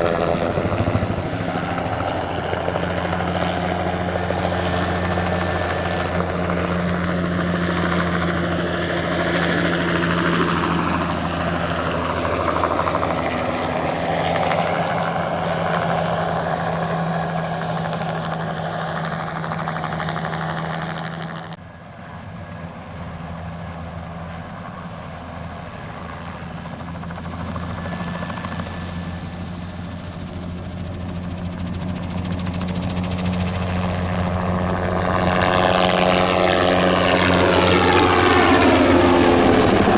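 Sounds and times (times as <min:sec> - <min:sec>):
helicopter rotor hum: 0:00.0 - 0:39.9.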